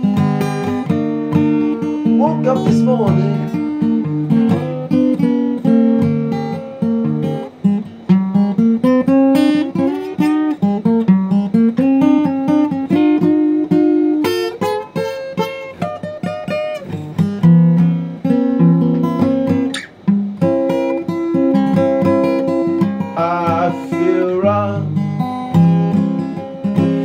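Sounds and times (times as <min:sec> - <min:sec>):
acoustic guitar blues: 0:00.0 - 0:27.0.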